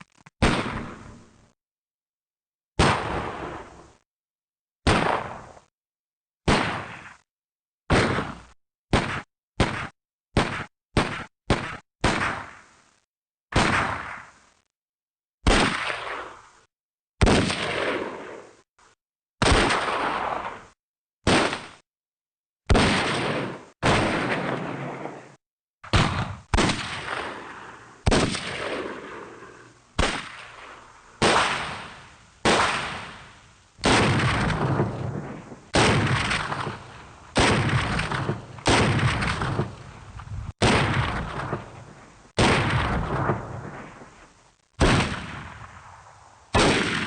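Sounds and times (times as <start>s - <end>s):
gunshots with echoing decay: 0.0s - 1.6s, 2.8s - 4.0s, 4.8s - 5.7s, 6.5s - 7.2s, 7.9s - 14.6s, 15.4s - 18.6s, 19.4s - 21.8s, 22.7s - 39.9s, 40.6s - 47.0s.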